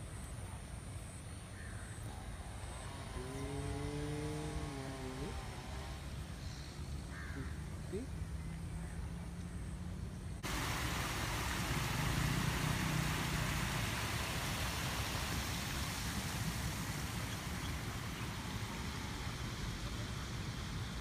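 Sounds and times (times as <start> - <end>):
rushing hiss of outdoor noise: 0.0 - 21.0.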